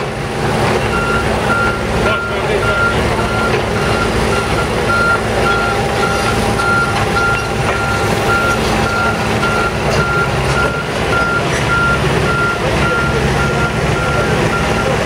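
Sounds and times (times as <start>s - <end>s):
low rumble of engines: 0.0s - 15.0s
backup alarm beeping: 0.9s - 15.0s.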